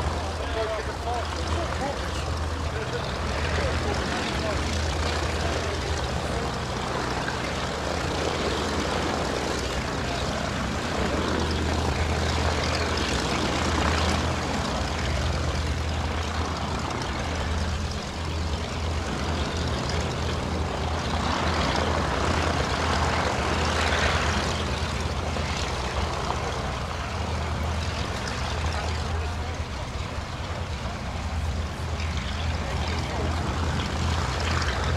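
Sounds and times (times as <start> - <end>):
propeller sound: 0.0 - 34.9
rotary aircraft engine running: 0.0 - 34.9.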